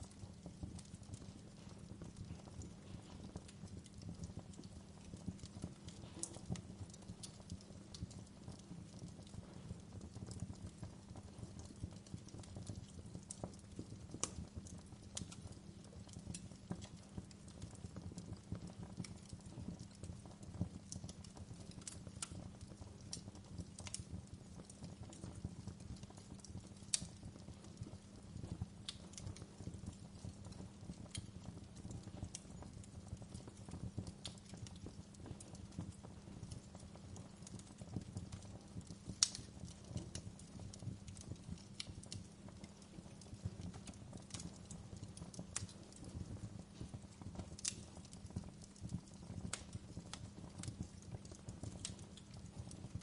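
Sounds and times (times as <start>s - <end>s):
low rumble of burning logs: 0.0s - 53.0s
wood fire popping and snapping: 0.0s - 53.0s.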